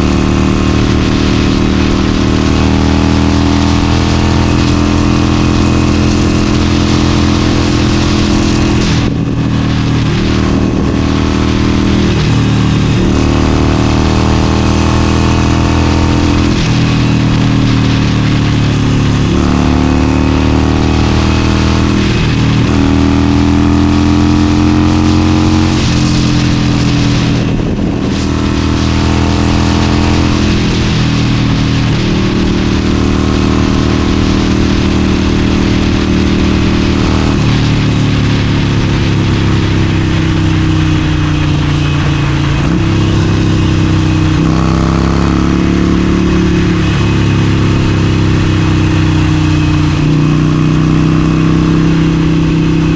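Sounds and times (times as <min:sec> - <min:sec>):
motorcycle engine at speed: 0:00.0 - 0:52.9
wind rushing over microphone: 0:00.0 - 0:52.9.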